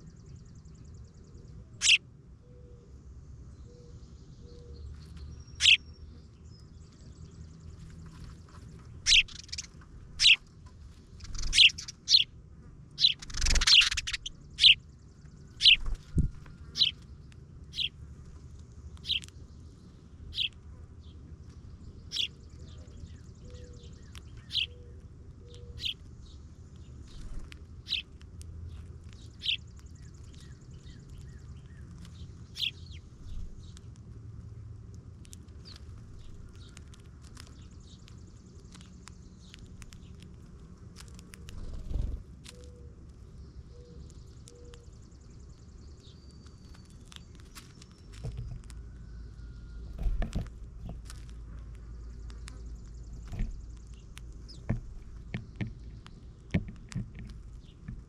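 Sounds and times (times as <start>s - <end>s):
small bird chirping: 0.0s - 58.0s.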